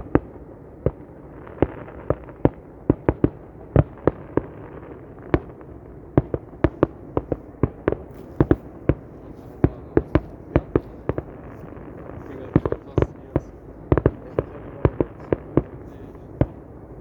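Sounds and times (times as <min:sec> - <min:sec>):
fireworks exploding: 0:00.0 - 0:17.0
background hiss: 0:01.0 - 0:17.0.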